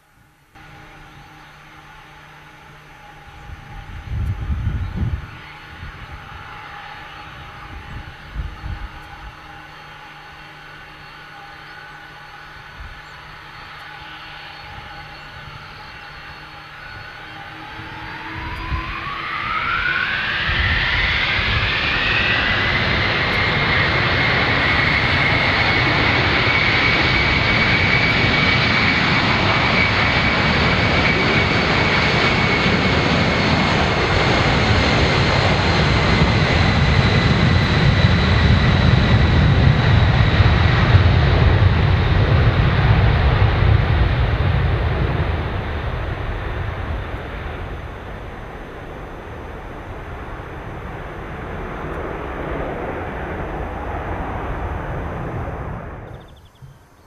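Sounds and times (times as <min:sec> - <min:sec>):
jet engines at takeoff: 0:00.0 - 0:57.0.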